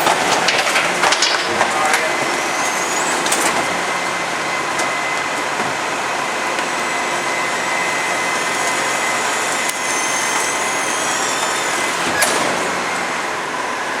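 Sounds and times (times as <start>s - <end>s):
high squeals: 0.0s - 13.8s
garbage truck running: 0.0s - 14.0s
hydraulic compactor working: 0.0s - 14.0s.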